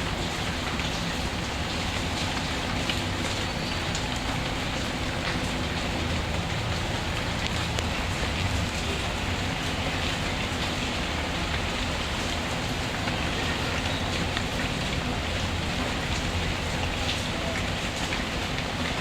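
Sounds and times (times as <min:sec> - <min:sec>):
rain falling: 0:00.0 - 0:19.0
faint wood fire crackles: 0:00.1 - 0:19.0.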